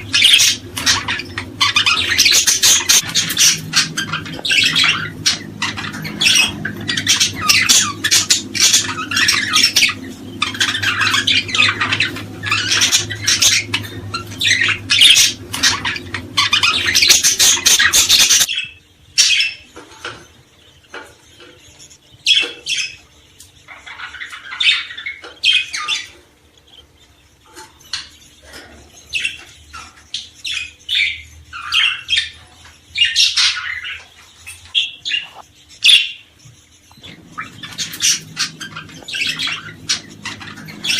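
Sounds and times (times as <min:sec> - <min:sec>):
cage birds chirping and squawking: 0:00.0 - 0:40.9.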